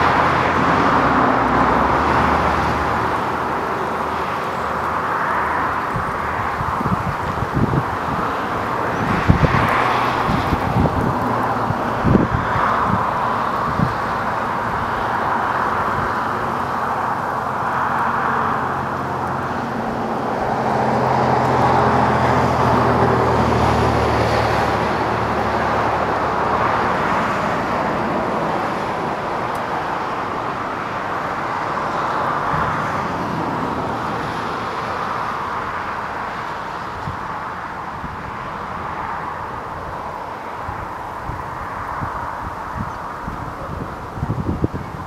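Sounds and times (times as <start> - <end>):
diesel locomotive engines droning: 0.0 - 45.0
freight cars rumbling past: 0.0 - 45.0.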